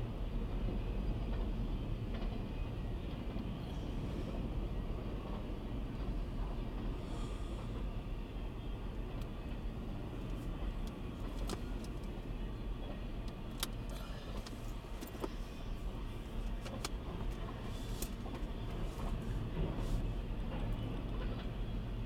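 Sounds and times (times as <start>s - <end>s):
clicks and clanks from train cars: 0.0s - 22.0s
train wheels rumbling on rails: 0.0s - 22.0s.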